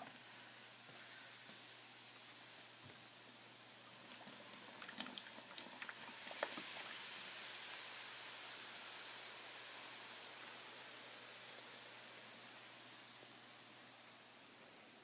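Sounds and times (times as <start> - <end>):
high fizzing hiss: 0.0 - 15.0.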